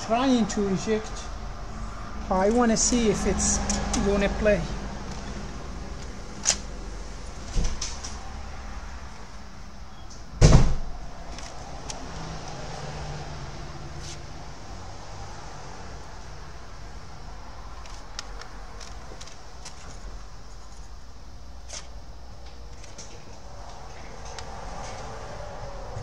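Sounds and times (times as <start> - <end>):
cd player low hum: 0.1 - 10.3, 10.9 - 26.0.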